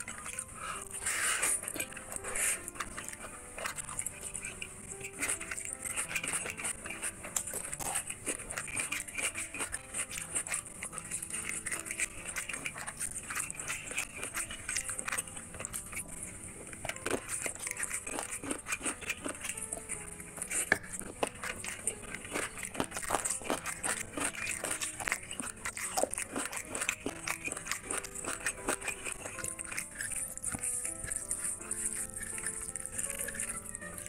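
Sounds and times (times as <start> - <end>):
fingers squishing rice: 0.0 - 34.0
soft background music: 0.0 - 34.0
teeth biting into chicken: 0.0 - 34.0
wet chewing and lip-smacking: 0.0 - 34.0.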